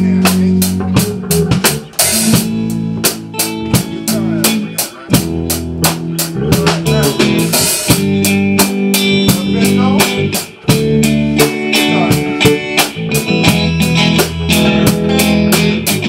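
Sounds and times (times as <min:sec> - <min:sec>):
drum kit beat: 0:00.0 - 0:16.0
electric guitar: 0:00.0 - 0:16.0.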